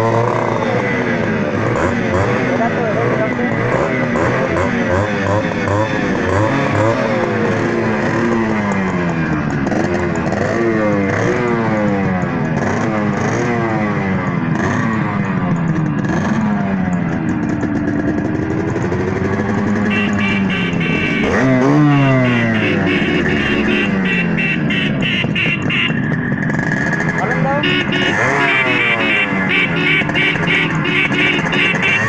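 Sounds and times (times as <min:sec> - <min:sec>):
two-stroke motorcycle engine revving: 0:00.0 - 0:32.0.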